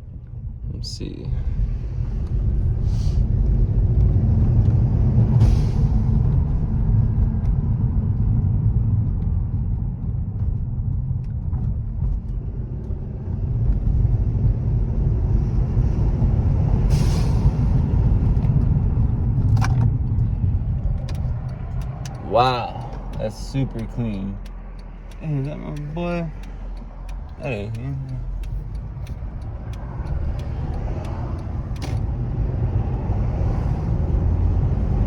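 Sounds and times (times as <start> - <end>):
turbocharged car engine revving: 1.9 - 35.0.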